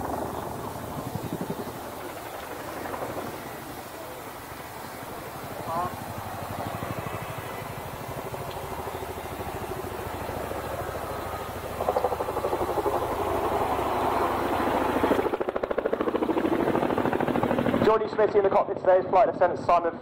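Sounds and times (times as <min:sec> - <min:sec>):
helicopter rotor blades beating: 0:00.0 - 0:20.0.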